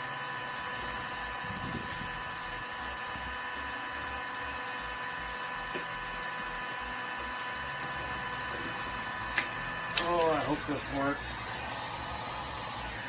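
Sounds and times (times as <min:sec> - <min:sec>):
electrical hum and hiss: 0:00.7 - 0:13.0.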